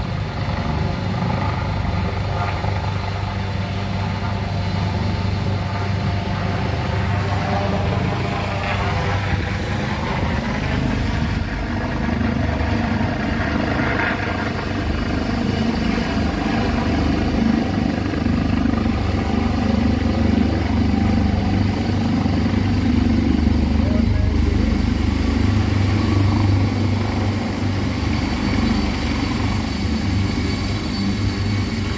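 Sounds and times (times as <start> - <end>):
helicopter rotor and engine: 0.0 - 31.9.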